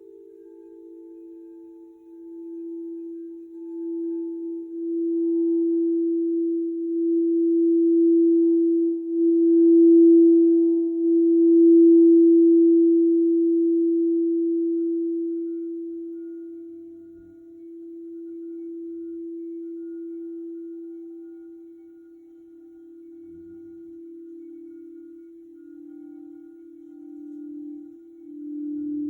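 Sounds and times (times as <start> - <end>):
higher singing bowl tone: 0.0 - 29.0
singing bowl low tone: 0.0 - 29.0.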